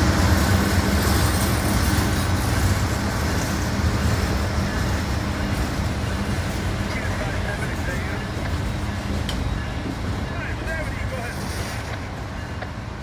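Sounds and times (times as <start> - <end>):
diesel locomotive engine drone: 0.0 - 13.0
train wheels rolling on rails: 0.0 - 13.0.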